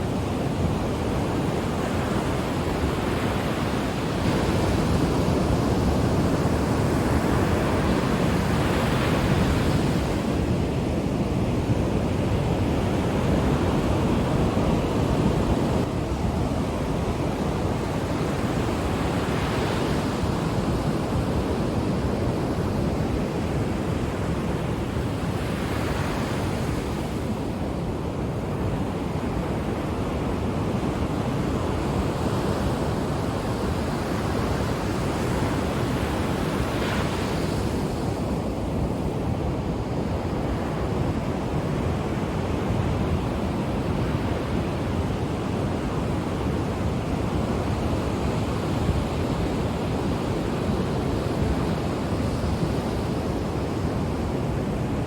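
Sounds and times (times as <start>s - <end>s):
ocean surf washing ashore: 0.0s - 55.0s.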